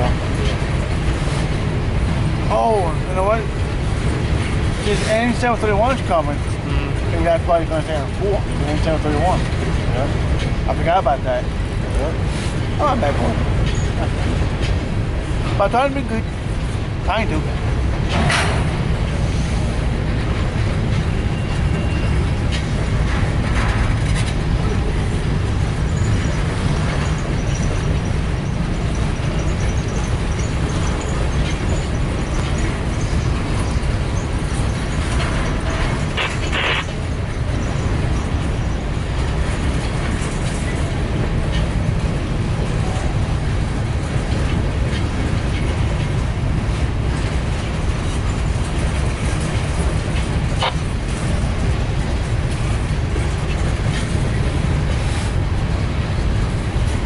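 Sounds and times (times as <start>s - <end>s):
train cars rolling by: 0.0s - 57.0s.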